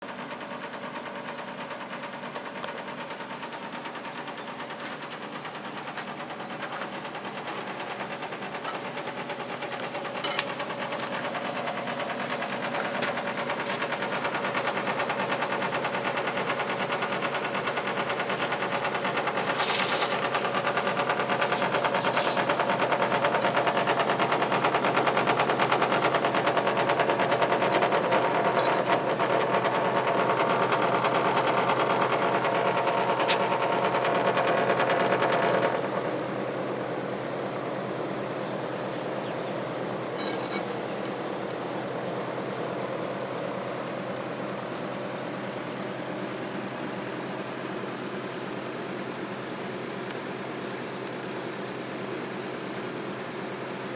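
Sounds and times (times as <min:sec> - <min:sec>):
air conditioner unit rattling: 0:00.0 - 0:53.9.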